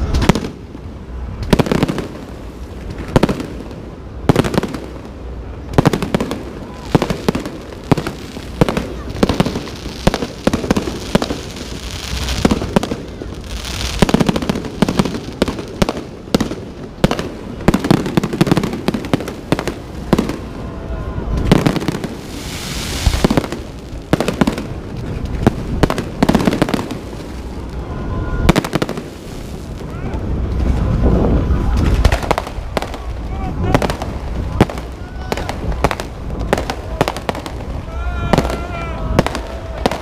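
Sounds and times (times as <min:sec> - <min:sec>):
fireworks crackling: 0:00.0 - 0:40.0.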